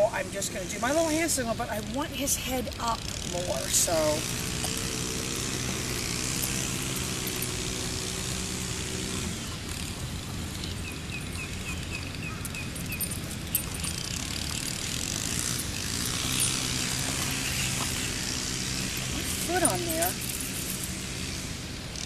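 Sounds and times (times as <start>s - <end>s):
vehicle engine idling: 0.0s - 21.8s.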